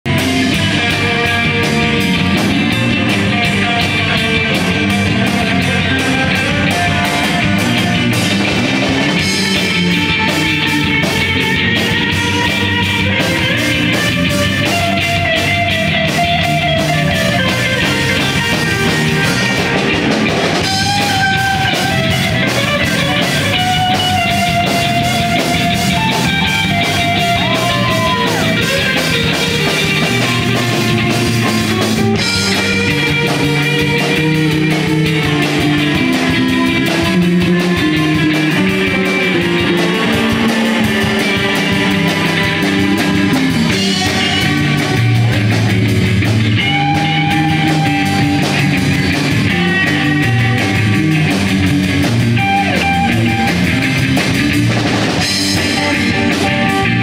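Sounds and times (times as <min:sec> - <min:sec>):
live rock band playing: 0:00.0 - 0:57.0
held guitar notes: 0:00.1 - 0:57.0.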